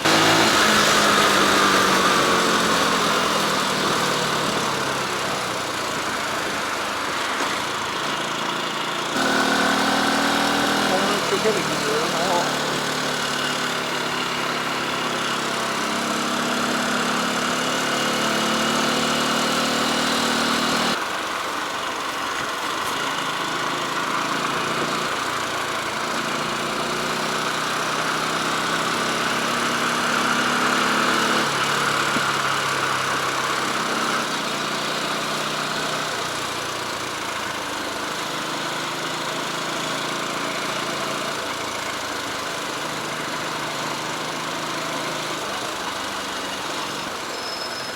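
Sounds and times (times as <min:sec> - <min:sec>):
motorcycle engine running: 0:00.0 - 0:47.4.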